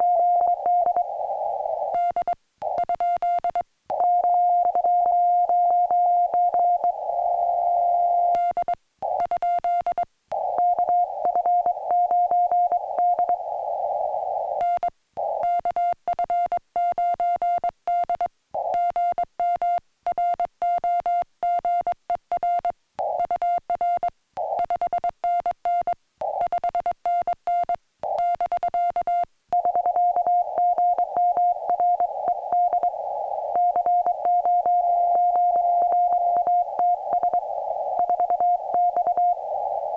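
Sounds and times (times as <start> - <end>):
morse code beeps: 1.8 - 13.4, 14.6 - 39.6.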